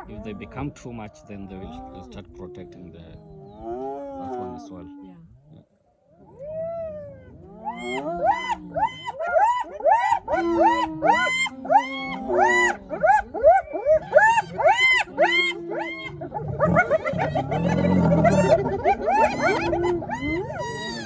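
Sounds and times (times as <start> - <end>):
hyenas calling: 0.0 - 21.0.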